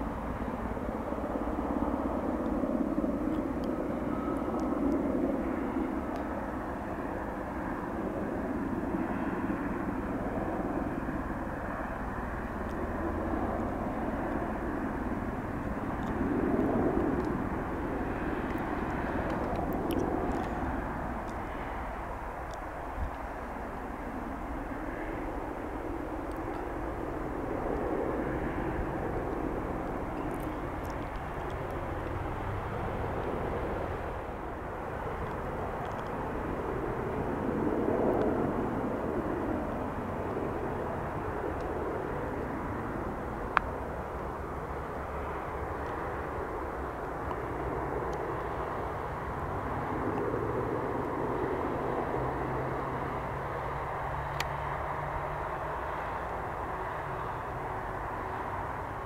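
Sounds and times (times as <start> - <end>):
distant helicopter rotor drone: 0.0 - 59.0.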